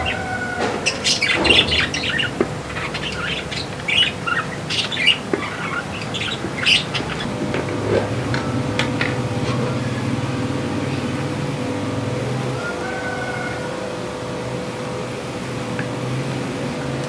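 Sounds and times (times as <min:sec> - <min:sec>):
birds chirping and squawking: 0:00.0 - 0:14.4.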